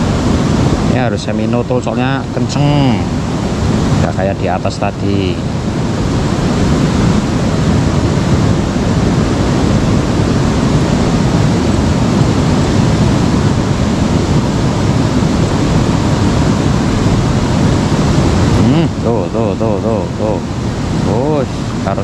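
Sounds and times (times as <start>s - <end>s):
fast-flowing river rushing: 0.0s - 22.0s.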